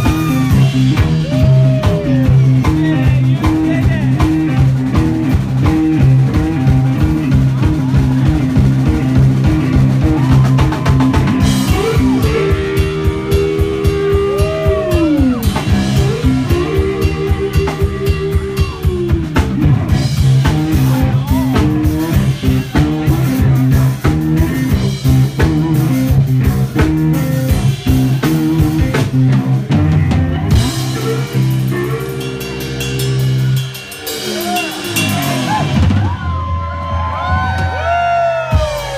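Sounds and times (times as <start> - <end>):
drum kit beat: 0.0 - 38.9
electric bass: 0.0 - 38.9
electric guitar lead sliding notes: 4.2 - 36.1.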